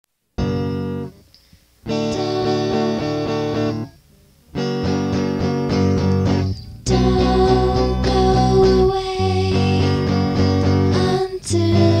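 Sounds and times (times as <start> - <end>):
guitar chords: 0.4 - 12.0.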